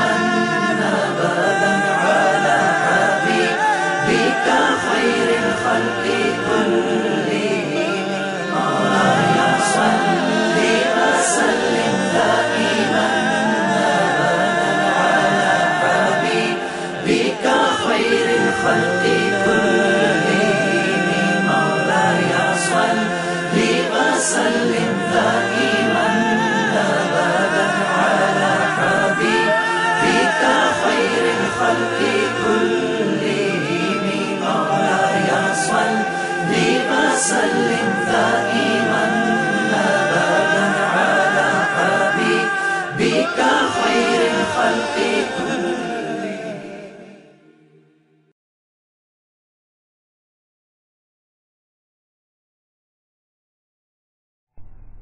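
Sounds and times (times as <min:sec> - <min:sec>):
voices singing a cappella: 0:00.0 - 0:48.4.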